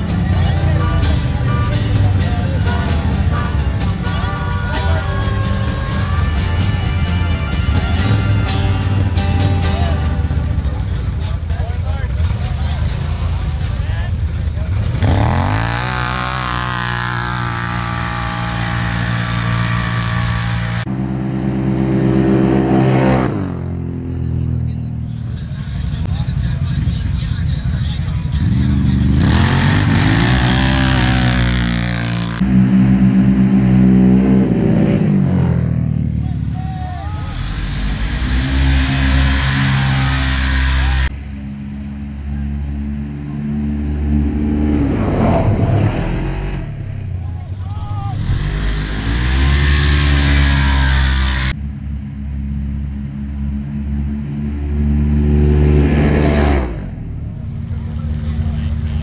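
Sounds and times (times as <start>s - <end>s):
racing engine at full throttle: 0.0s - 59.0s.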